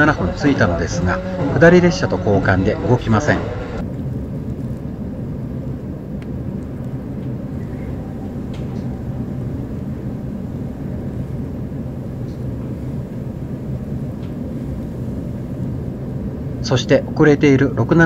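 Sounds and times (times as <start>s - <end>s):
train equipment humming: 0.0s - 18.0s
wind buffeting train car: 0.0s - 18.0s.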